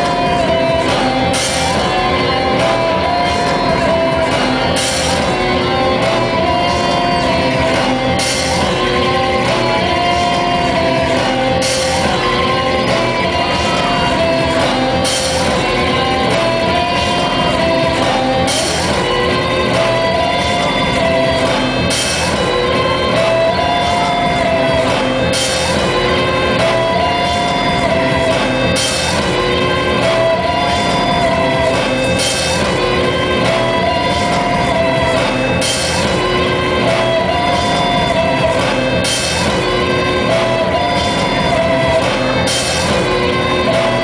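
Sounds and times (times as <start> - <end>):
electric guitars droning and looping: 0.0 - 44.0.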